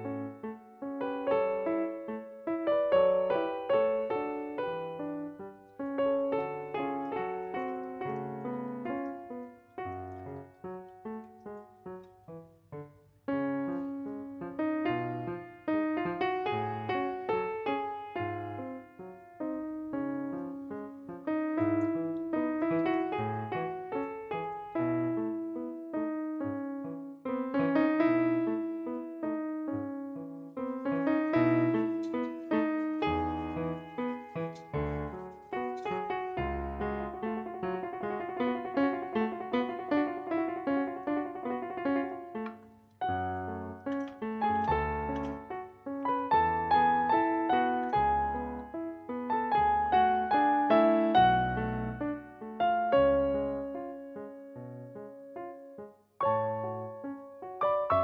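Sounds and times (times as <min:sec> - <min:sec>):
gentle keyboard melody: 0:00.0 - 0:58.0.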